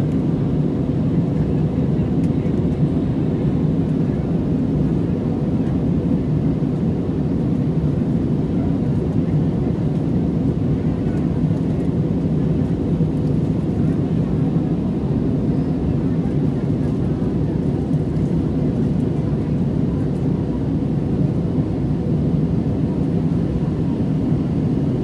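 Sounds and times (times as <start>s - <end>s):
jet airliner cabin noise: 0.0s - 25.0s.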